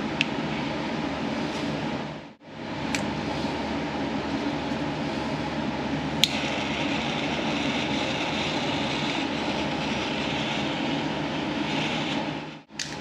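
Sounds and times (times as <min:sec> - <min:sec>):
heat tool humming with hiss: 0:00.0 - 0:13.0.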